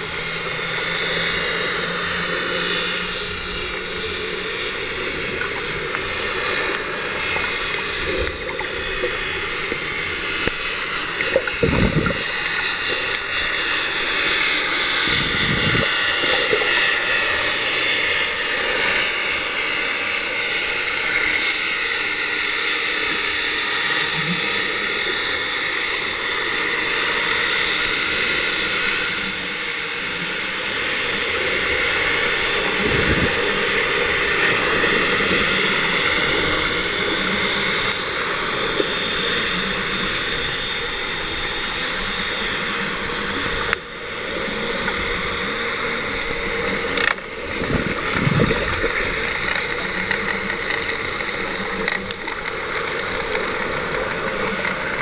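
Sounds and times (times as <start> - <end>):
underwater rushing water: 0.0 - 55.0.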